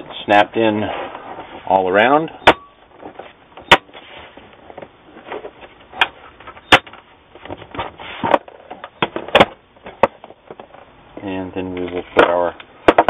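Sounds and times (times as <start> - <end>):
plastic handling and rubbing: 0.1 - 2.1, 2.8 - 13.0.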